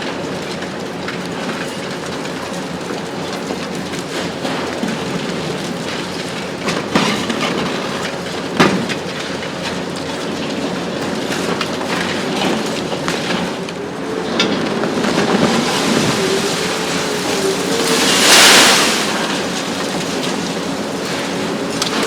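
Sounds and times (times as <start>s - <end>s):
concrete cracking and clattering: 0.0s - 22.0s
machine noise: 0.0s - 22.0s.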